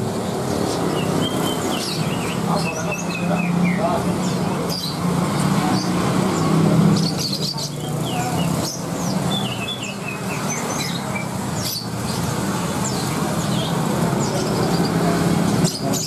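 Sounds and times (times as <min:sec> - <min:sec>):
low hum of motorbike traffic: 0:00.0 - 0:16.0
songbirds chirping: 0:00.0 - 0:16.0.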